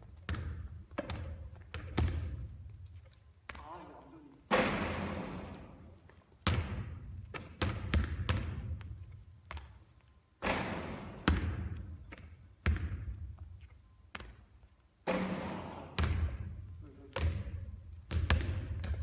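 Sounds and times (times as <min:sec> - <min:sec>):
basketball bouncing: 0:00.0 - 0:02.8, 0:04.5 - 0:19.0.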